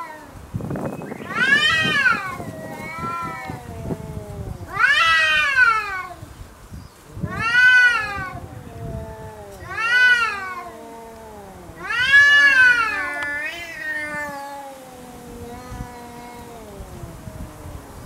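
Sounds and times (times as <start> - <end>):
cats yowling: 0.0 - 0.4, 1.0 - 6.3, 7.0 - 18.0
low drawn-out cat moan: 1.4 - 6.2, 7.1 - 18.0.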